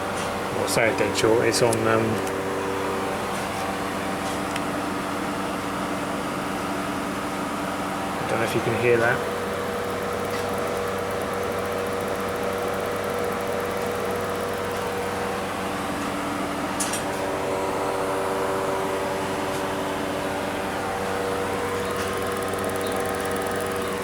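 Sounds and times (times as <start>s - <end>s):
hum of fans and motors: 0.0s - 24.0s.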